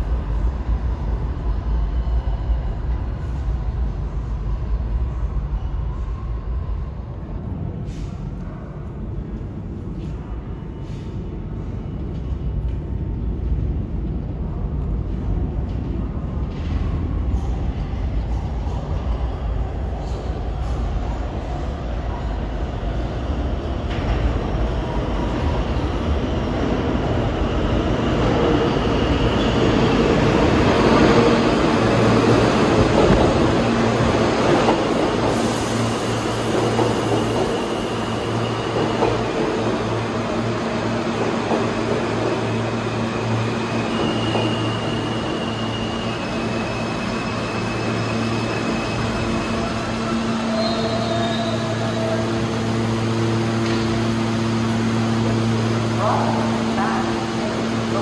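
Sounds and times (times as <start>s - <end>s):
subway train wheels rumbling: 0.0s - 58.0s.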